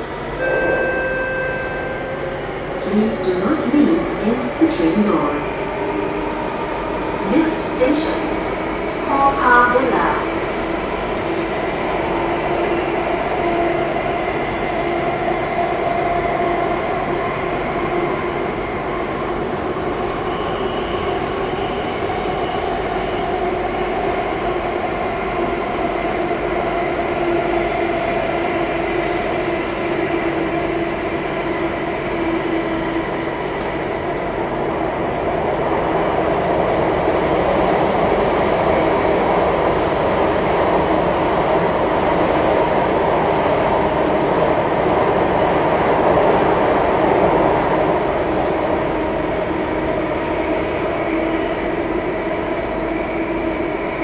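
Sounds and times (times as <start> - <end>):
train wheels rumbling on rail: 2.5 - 54.0.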